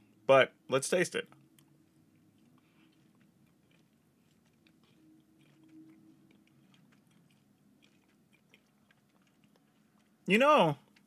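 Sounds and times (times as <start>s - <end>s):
low room hum: 0.0s - 11.0s
faint chewing: 1.2s - 11.0s.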